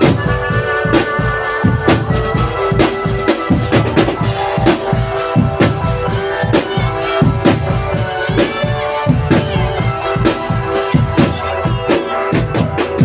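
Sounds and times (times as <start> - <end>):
drum beat: 0.0 - 13.0
sustained melody: 0.0 - 13.0.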